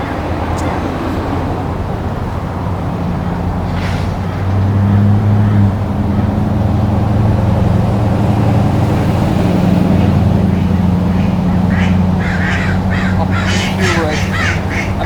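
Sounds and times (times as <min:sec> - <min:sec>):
low engine hum: 0:00.0 - 0:15.0
rushing background noise: 0:00.0 - 0:15.0.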